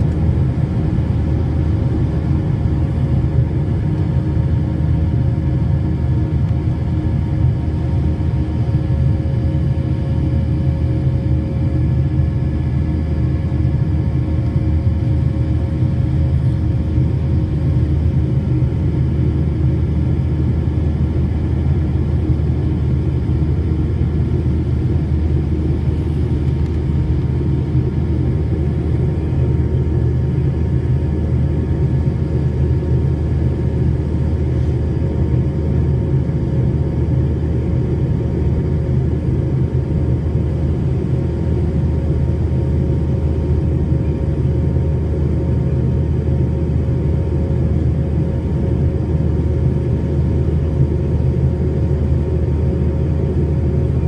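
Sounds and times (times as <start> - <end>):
airliner cabin rumble: 0.0 - 54.0
faint steady whines: 0.0 - 54.0.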